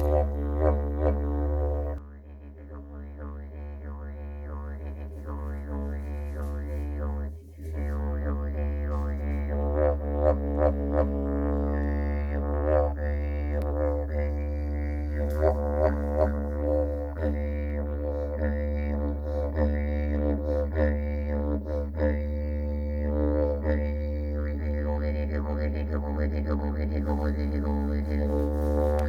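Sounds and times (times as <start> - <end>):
didgeridoo drone: 0.0 - 29.0.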